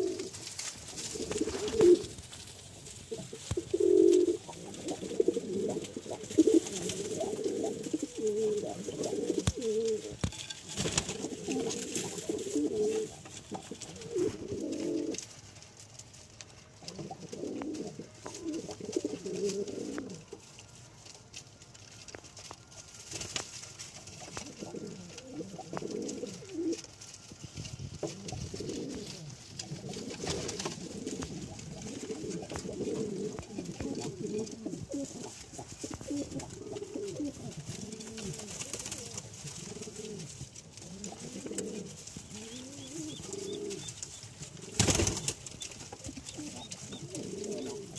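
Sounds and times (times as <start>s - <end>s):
pigeons cooing: 0.0s - 15.3s, 16.8s - 20.5s, 24.0s - 47.9s.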